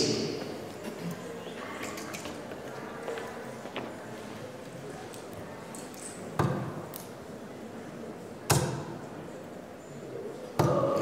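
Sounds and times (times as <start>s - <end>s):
murmur of hall: 0.0s - 11.0s.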